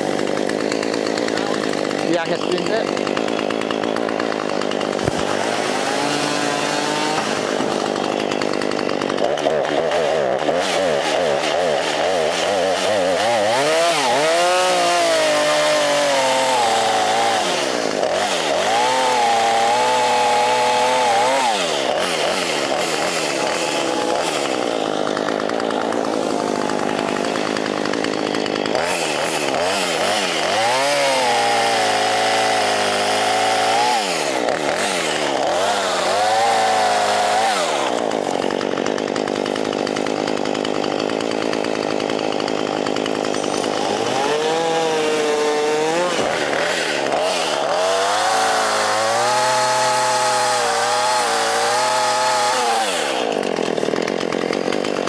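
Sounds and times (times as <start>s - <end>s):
chainsaws cutting wood: 0.0s - 55.0s.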